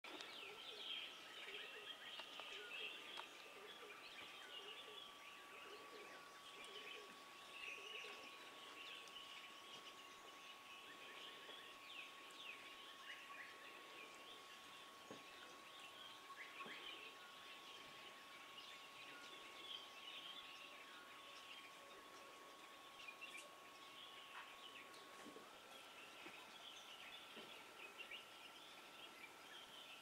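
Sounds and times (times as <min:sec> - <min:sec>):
wild birds chirping and calling: 0:00.1 - 0:30.0.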